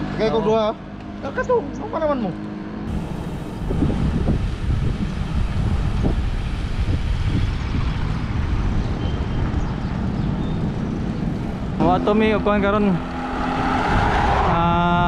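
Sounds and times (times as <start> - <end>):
road noise: 0.0 - 15.0
wind buffeting microphone: 2.9 - 15.0.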